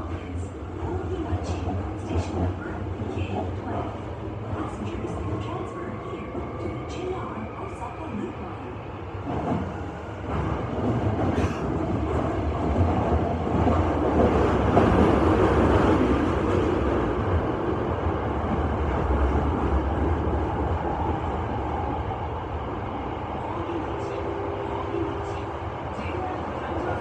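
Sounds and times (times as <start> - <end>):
train wheels rumbling on rail: 0.0 - 8.5, 9.2 - 27.0.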